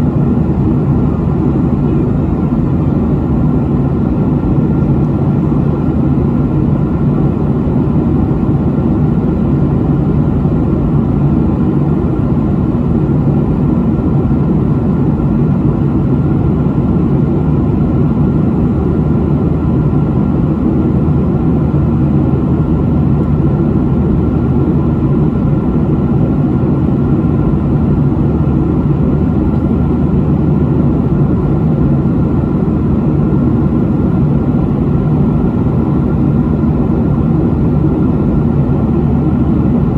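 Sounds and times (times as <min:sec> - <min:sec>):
airliner cabin drone: 0:00.0 - 0:39.9
faint steady whine: 0:00.0 - 0:39.9.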